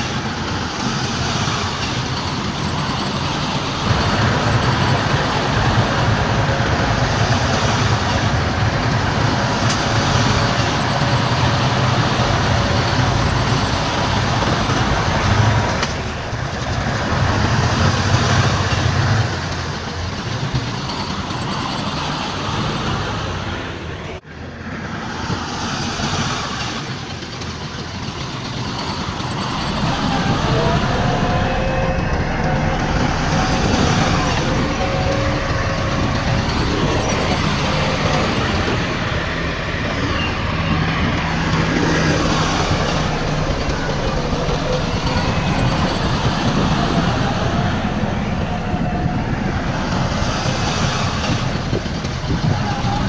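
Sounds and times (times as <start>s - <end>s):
heavy diesel machinery droning: 0.0s - 53.0s.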